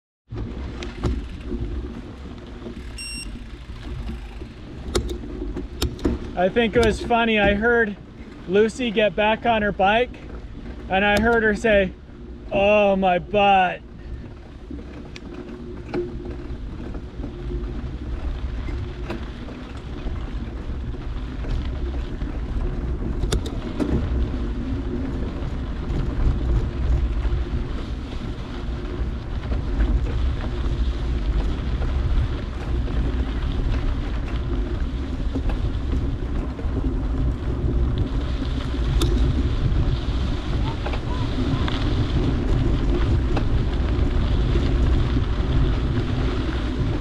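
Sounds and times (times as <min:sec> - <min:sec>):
wind blowing on microphone: 0:03.0 - 0:47.0.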